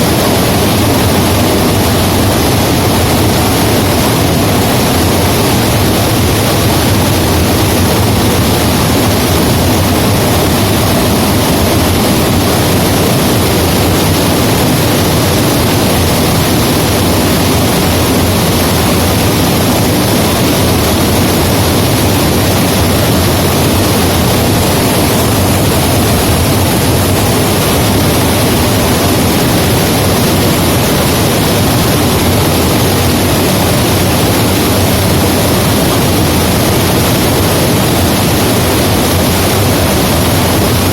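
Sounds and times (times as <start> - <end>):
water pouring over dam: 0.0 - 40.9.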